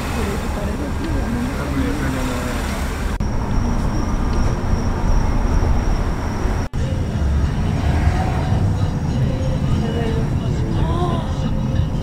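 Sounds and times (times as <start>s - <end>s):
car road and wind rumble: 0.0s - 12.0s.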